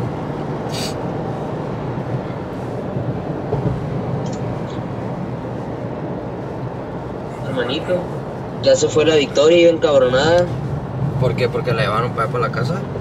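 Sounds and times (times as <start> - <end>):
vehicle driving rumble: 0.0 - 13.0.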